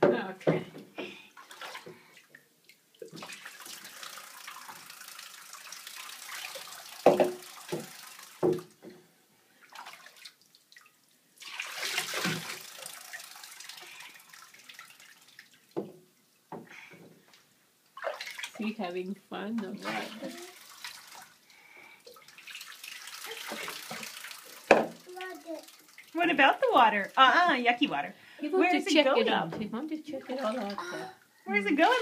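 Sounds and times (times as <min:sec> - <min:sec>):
water pouring and trickling: 0:01.1 - 0:17.1, 0:17.9 - 0:32.0.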